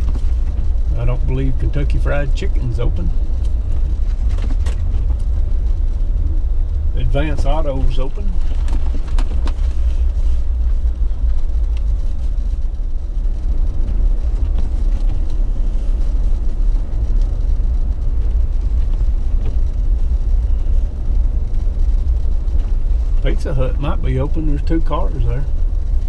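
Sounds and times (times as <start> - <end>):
engine and tyre rumble: 0.0 - 26.0.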